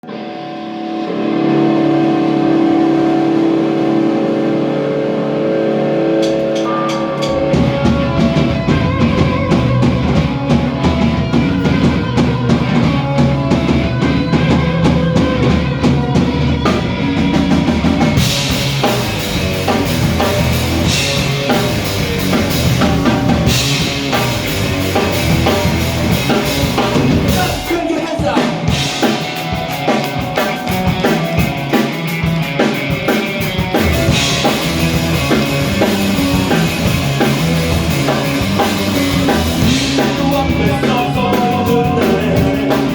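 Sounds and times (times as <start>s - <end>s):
live rock band playing: 0.0s - 42.9s
bass drum: 7.2s - 42.9s.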